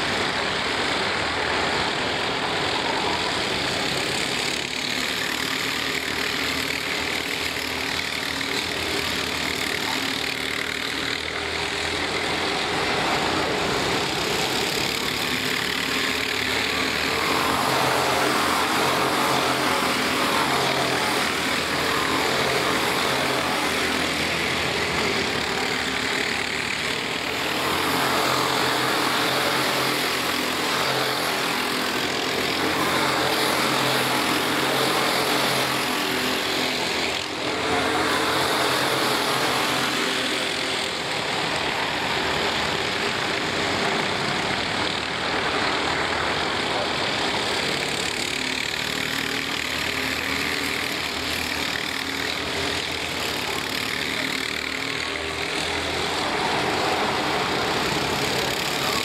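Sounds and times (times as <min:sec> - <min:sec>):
racing karts engine drone: 0:00.0 - 0:59.0.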